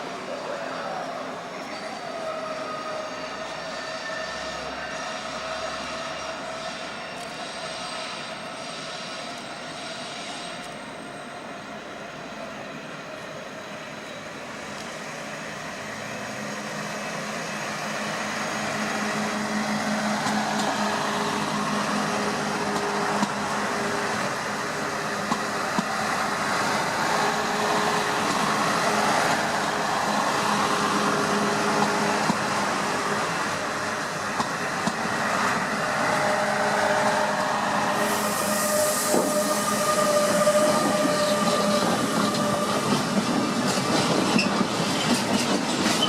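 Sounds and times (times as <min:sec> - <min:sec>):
train running past: 0:00.0 - 0:46.0.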